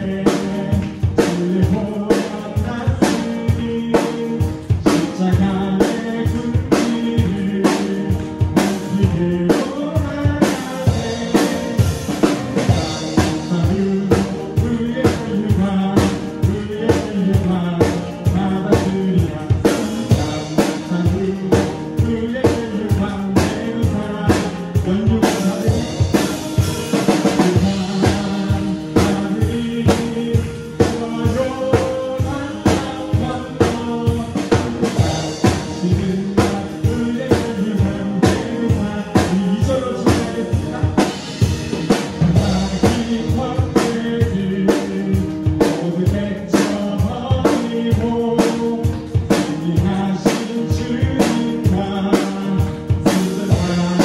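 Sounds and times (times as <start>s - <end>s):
drum kit playing a steady beat: 0.0s - 54.0s
recorded worship song with singing: 0.0s - 54.0s.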